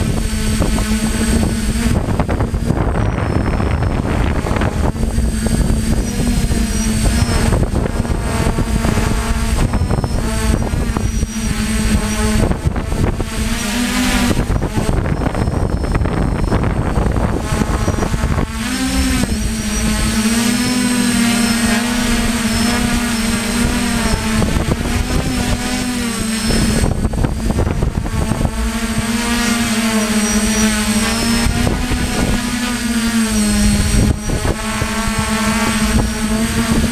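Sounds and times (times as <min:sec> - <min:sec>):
rushing air on microphone: 0:00.0 - 0:32.4
drone motors and propellers buzzing: 0:00.0 - 0:36.9.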